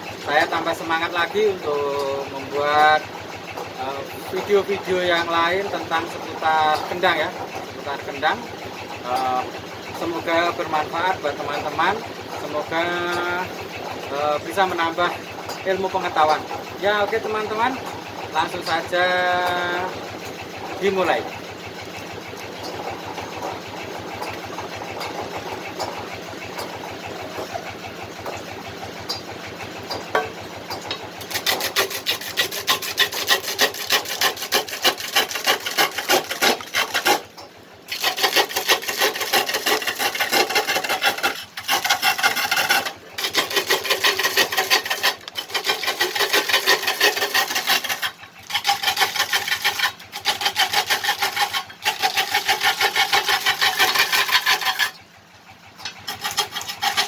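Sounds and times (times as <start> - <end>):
turning tool scraping wood: 0.0 - 55.1, 55.8 - 57.0
wood lathe running: 0.0 - 57.0.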